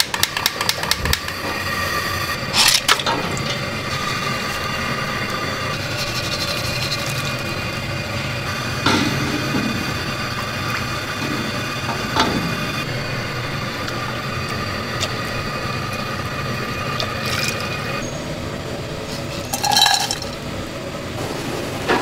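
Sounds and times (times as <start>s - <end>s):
steady high whine: 0.9s - 22.0s.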